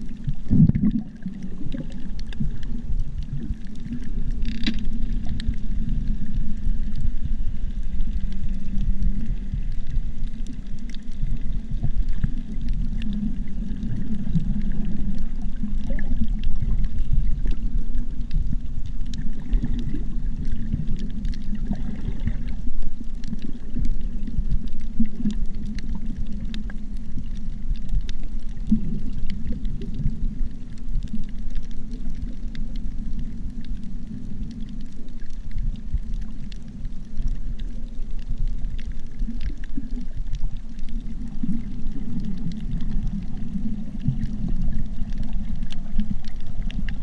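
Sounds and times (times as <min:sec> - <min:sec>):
muffled underwater rumble: 0:00.0 - 0:47.0
faint clicks: 0:00.1 - 0:47.0.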